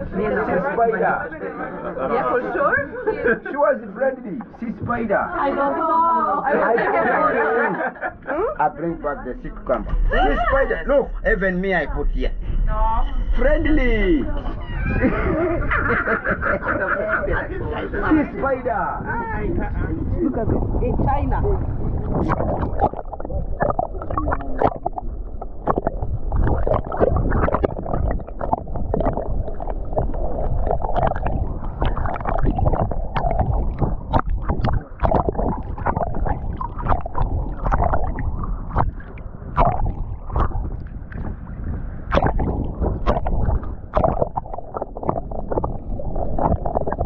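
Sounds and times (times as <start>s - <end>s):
underwater low rumble: 0.0s - 3.5s, 7.8s - 47.0s.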